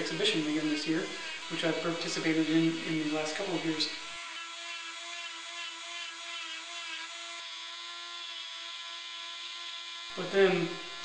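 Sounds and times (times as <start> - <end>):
rotary carving tool whining: 0.0 - 11.0.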